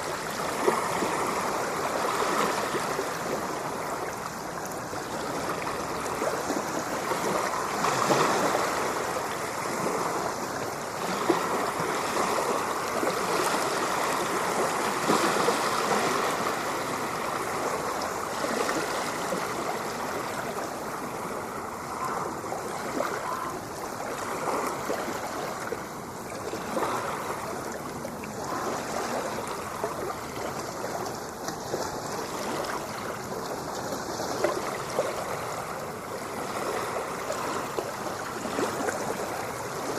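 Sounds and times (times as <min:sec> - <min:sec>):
ocean water lapping: 0:00.0 - 0:39.9.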